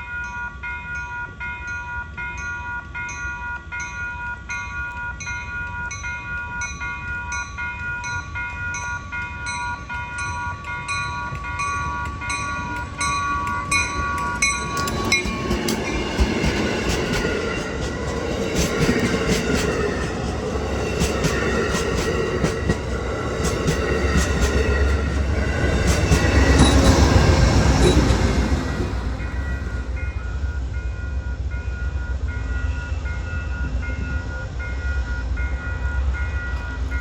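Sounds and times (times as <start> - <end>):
passing train rumble: 0.0 - 37.0
railroad crossing bell ringing: 0.0 - 37.0
train wheels clicking on rail joints: 0.7 - 30.6.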